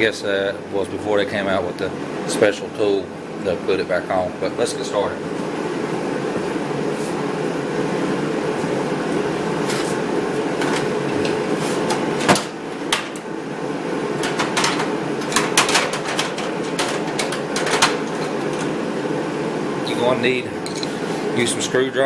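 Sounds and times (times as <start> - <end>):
heater humming: 0.0 - 22.0.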